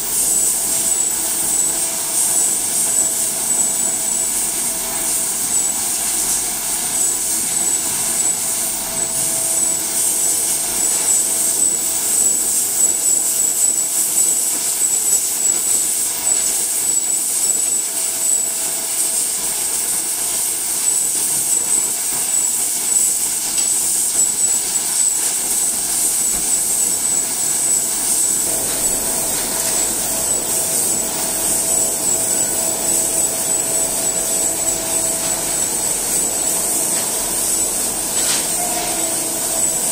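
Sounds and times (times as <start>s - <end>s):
conveyor and drum machinery running: 0.0s - 39.9s
steady high whine: 0.0s - 39.9s.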